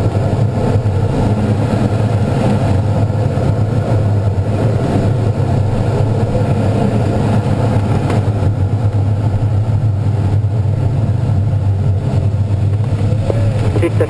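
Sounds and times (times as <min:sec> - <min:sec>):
rushing airflow in glider cockpit: 0:00.0 - 0:14.0.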